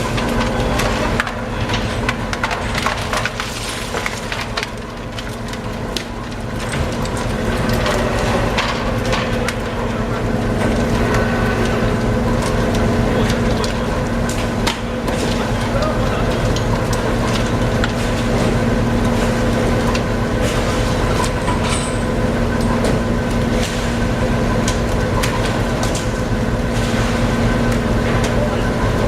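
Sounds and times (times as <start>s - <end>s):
machinery hum: 0.0s - 29.0s.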